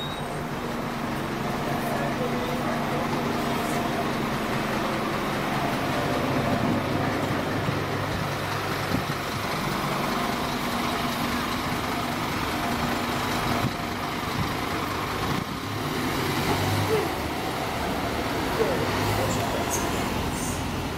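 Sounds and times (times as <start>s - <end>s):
diesel coach pulling away: 0.0s - 20.9s
street traffic noise: 0.0s - 20.9s.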